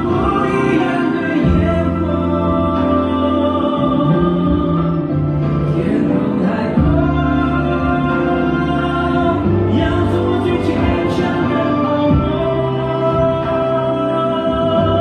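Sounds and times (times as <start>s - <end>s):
pop song with long held notes: 0.0s - 15.0s.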